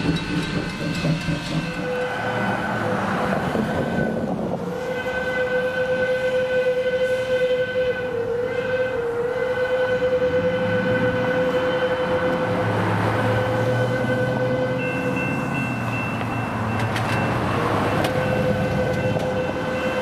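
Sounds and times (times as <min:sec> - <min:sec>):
steam locomotive whistle: 0:00.0 - 0:16.8, 0:17.6 - 0:20.0.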